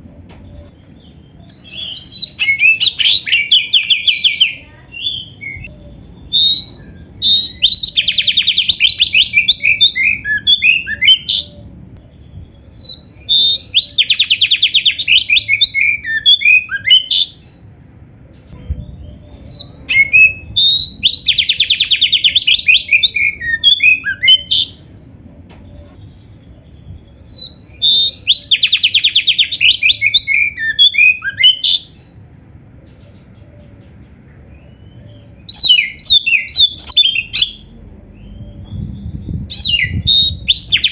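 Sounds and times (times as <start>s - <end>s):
magpie-robin singing: 0.5s - 17.4s, 18.7s - 24.9s, 25.6s - 32.0s, 32.8s - 40.9s.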